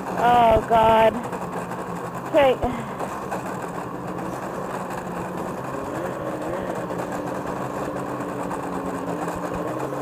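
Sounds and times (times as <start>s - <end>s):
snowmobile engine near idle: 0.0s - 10.0s.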